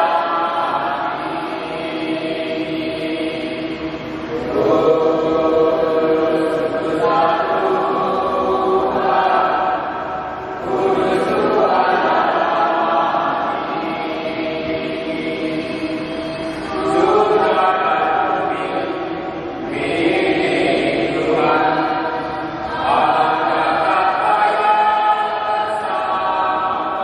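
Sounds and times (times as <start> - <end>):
voices singing church chant: 0.0 - 27.0.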